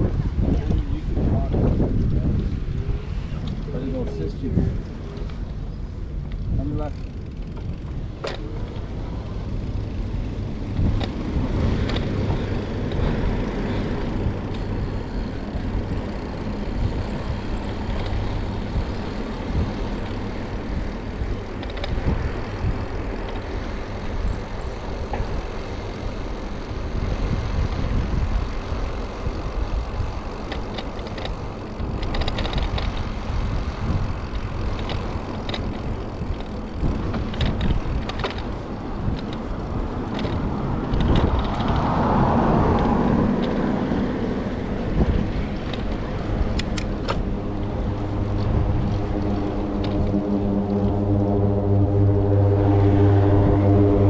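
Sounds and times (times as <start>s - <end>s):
bicycle riding noise: 0.0s - 54.0s
wind rumble on microphone: 0.0s - 54.0s.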